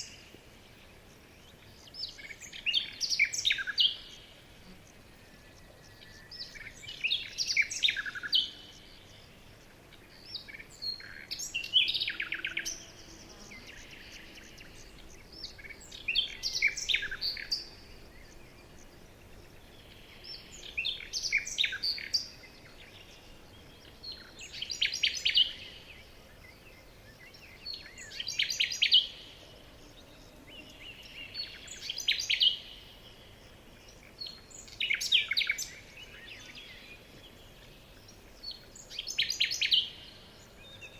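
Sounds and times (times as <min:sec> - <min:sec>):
faint steady hiss: 0:00.0 - 0:40.9
songbird chirps and trills: 0:00.0 - 0:40.9.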